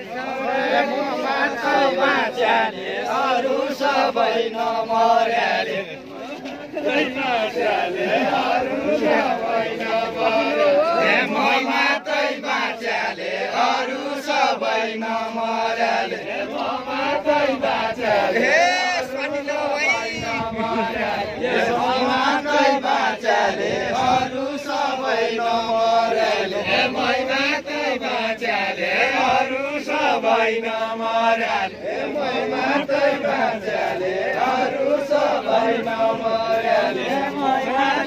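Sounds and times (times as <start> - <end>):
group singing folk song in unison: 0.0 - 38.0.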